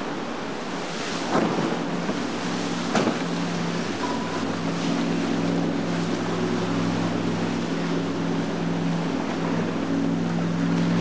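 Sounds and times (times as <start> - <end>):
motorboat engine humming: 0.0 - 11.0
water rushing and spraying: 0.0 - 11.0.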